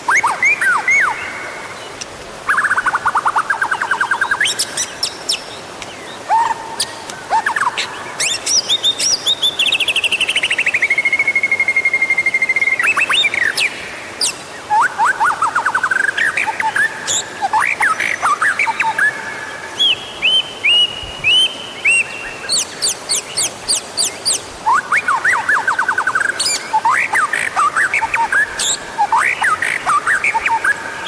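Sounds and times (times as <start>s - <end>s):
songbird singing trills and whistles: 0.0s - 1.6s, 2.5s - 31.0s.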